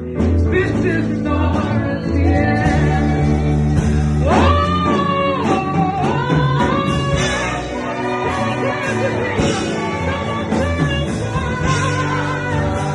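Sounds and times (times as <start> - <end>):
gospel band backing: 0.0 - 12.9.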